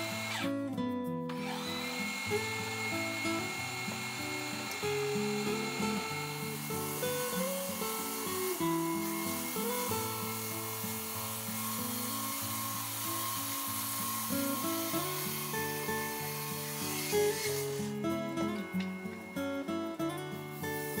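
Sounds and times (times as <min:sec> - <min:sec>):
table saw cutting board: 0:00.0 - 0:00.5, 0:01.3 - 0:21.0.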